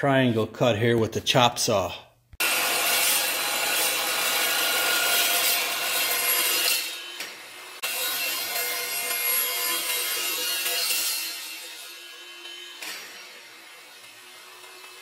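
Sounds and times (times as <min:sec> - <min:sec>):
chop saw cutting steel: 0:02.4 - 0:15.0.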